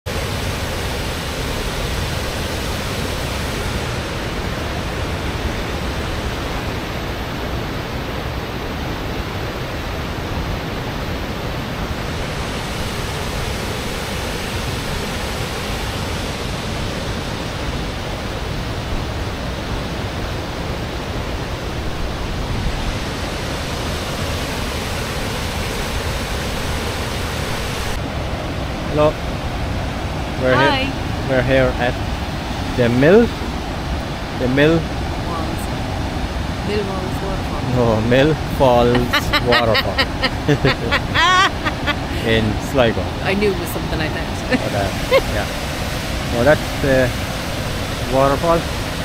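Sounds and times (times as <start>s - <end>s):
waterfall roaring: 0.1s - 49.0s.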